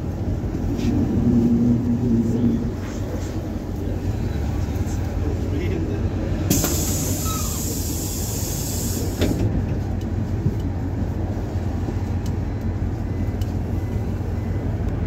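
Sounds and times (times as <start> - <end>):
bus engine low rumble: 0.0 - 15.0.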